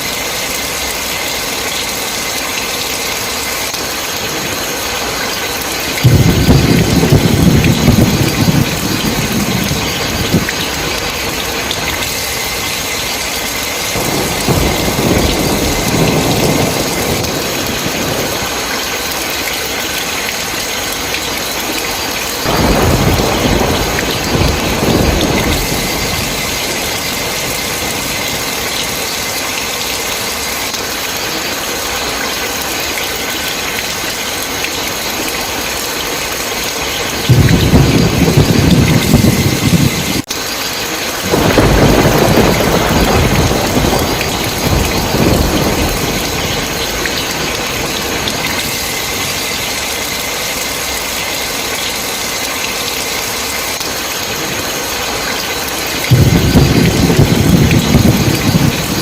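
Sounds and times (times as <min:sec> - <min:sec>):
heavy rain: 0:00.0 - 0:59.0
thunder rumbling: 0:03.8 - 0:31.3, 0:35.0 - 0:51.0, 0:54.0 - 0:59.0.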